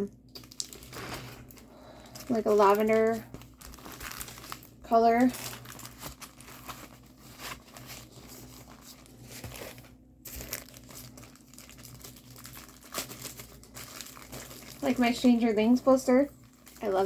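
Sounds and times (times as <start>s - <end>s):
plastic packaging crinkling: 0.2s - 17.0s.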